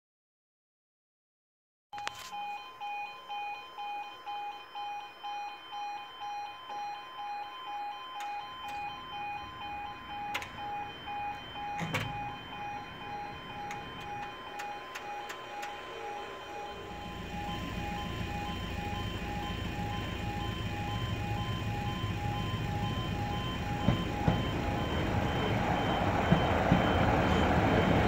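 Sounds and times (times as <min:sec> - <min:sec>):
two-tone electronic crossing alarm: 0:02.0 - 0:28.0.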